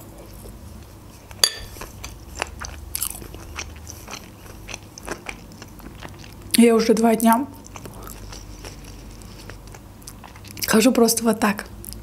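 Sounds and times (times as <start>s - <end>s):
chewing crunchy food: 0.1s - 10.8s.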